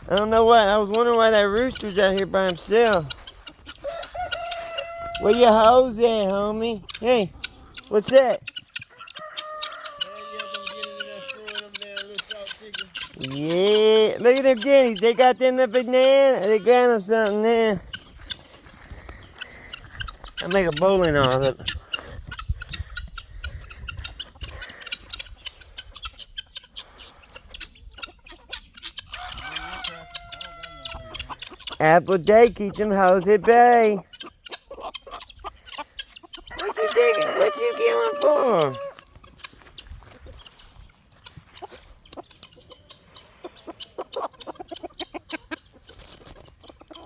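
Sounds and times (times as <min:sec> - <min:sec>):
chickens and guinea fowl calling: 0:00.0 - 0:47.0.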